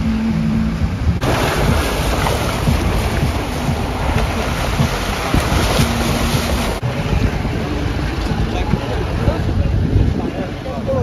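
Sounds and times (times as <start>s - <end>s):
background music: 0.0s - 9.3s
wind buffeting microphone: 0.0s - 11.0s.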